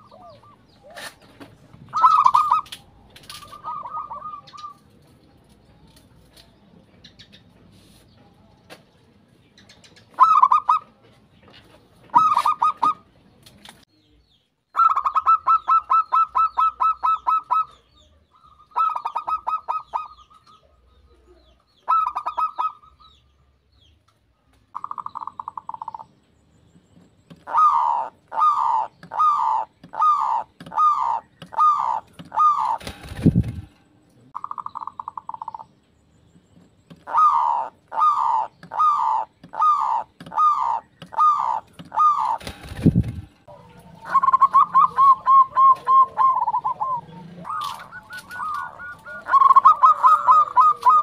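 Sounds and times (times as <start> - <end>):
doves cooing: 0.0 - 6.0, 9.6 - 11.0, 11.6 - 13.1, 14.8 - 23.1, 24.7 - 26.2, 27.2 - 35.8, 36.9 - 51.0.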